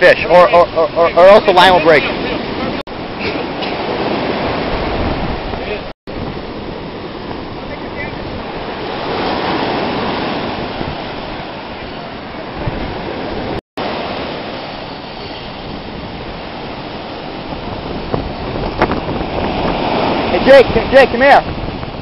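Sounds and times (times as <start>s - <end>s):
ocean surf washing up beach: 0.0s - 22.0s.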